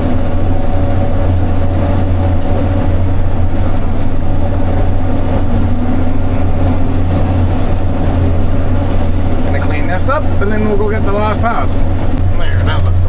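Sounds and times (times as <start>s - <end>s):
combine harvester low drone: 0.0s - 13.0s
steady hum: 0.0s - 13.0s.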